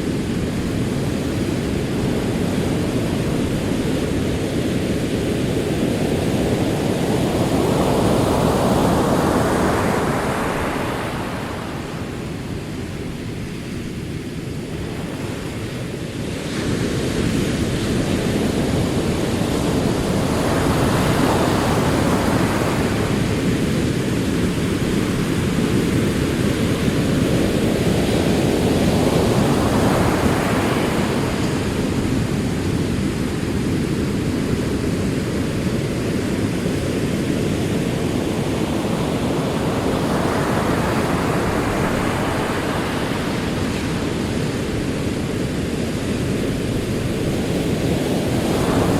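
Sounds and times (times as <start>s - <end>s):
rolling waves rumble: 0.0s - 48.9s.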